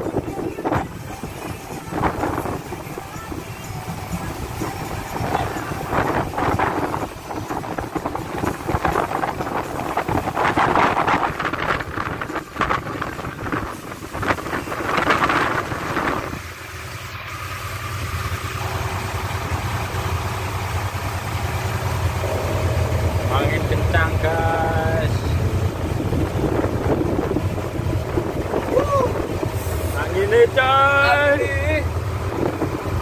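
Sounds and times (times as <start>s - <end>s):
boat engine running: 0.0s - 33.0s
gusting wind: 0.0s - 33.0s
rough sea: 0.0s - 33.0s.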